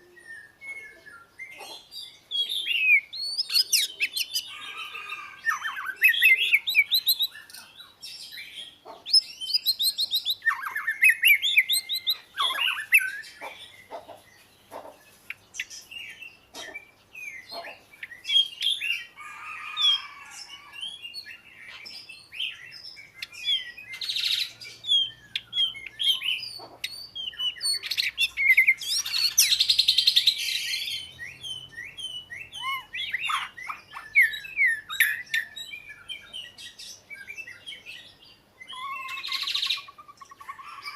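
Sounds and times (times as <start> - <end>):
bird singing whistles and trills: 0.0 - 13.9, 15.5 - 40.9.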